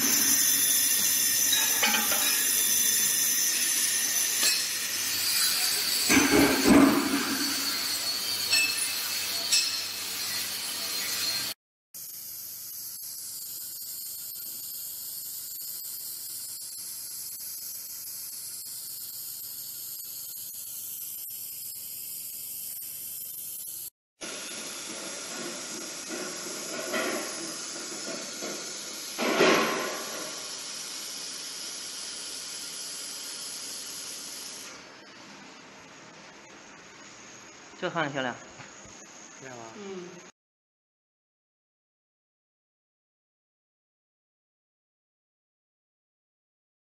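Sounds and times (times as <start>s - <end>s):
laser welding gun hissing: 0.0s - 40.3s.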